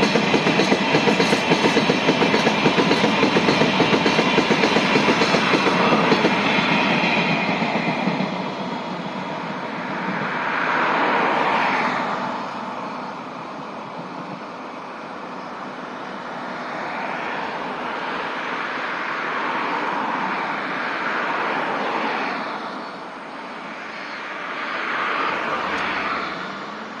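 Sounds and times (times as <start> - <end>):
freight train wheels on rails: 0.0 - 27.0.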